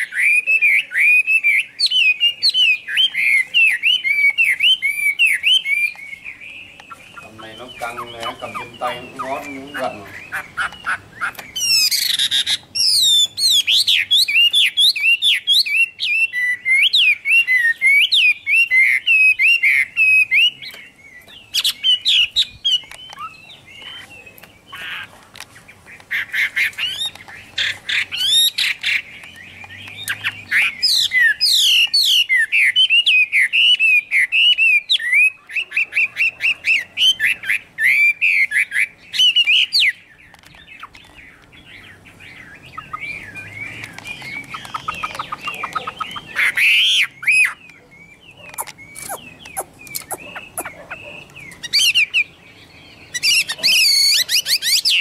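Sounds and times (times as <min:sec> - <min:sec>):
bird singing whistled song: 0:00.0 - 0:25.1, 0:26.1 - 0:55.0.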